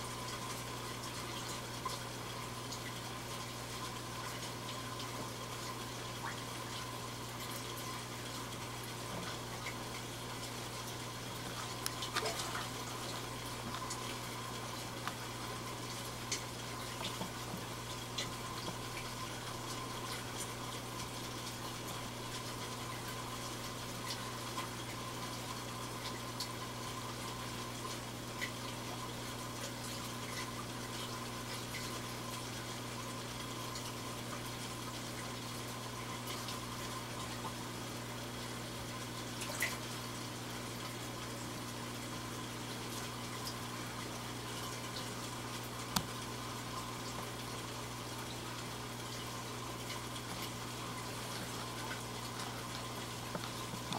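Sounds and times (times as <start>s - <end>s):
low pump hum: 0.0s - 53.9s
water trickling and splashing: 0.0s - 53.9s.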